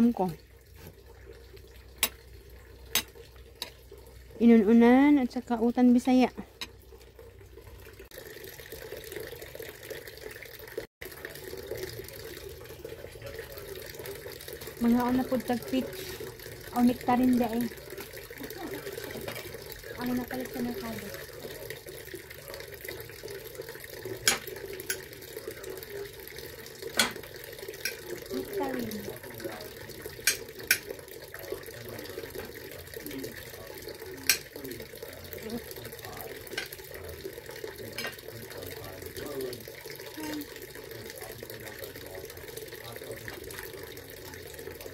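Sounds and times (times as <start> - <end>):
running water: 0.0 - 44.9.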